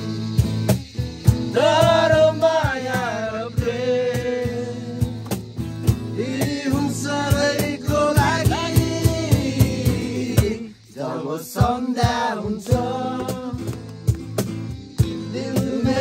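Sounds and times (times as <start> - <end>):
song with singing guitar and drums: 0.0 - 16.0.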